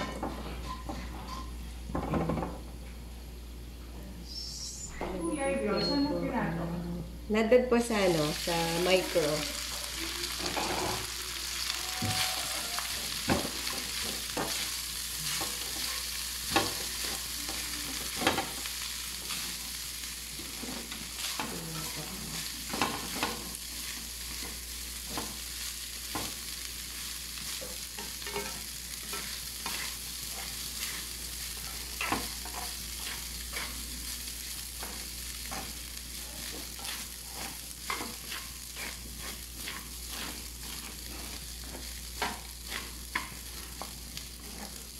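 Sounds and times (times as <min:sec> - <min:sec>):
rice sizzling in hot oil: 0:08.0 - 0:44.9
spatulas scraping a wok: 0:08.2 - 0:44.9.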